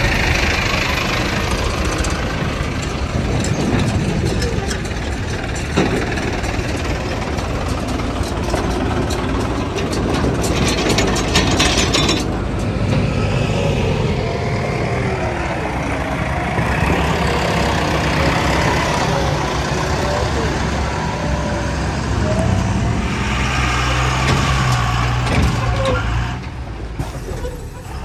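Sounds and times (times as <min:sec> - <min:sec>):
tractor engines under load: 0:00.0 - 0:28.0.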